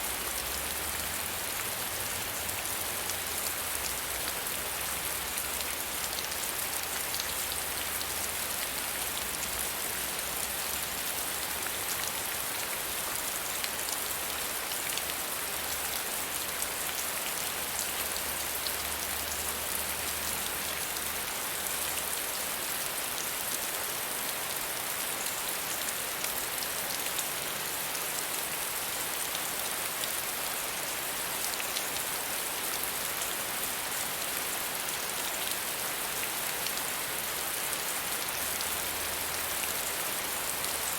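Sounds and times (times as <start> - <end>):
soft rain falling: 0.0 - 40.9.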